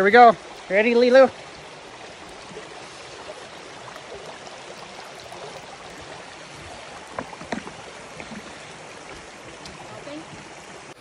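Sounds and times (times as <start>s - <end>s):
creek water running over rocks: 0.0s - 11.0s.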